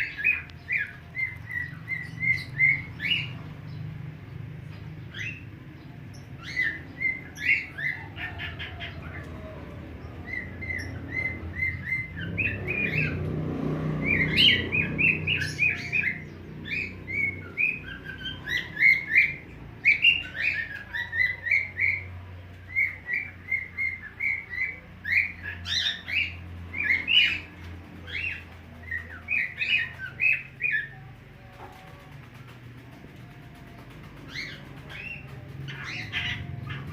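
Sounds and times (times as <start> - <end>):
bird chirping: 0.0 - 31.9.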